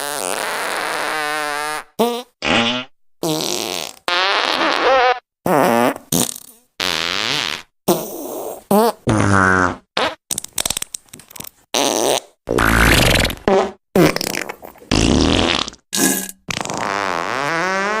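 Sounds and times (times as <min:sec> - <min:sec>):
fart sound effects: 0:00.0 - 0:10.2, 0:11.8 - 0:18.0.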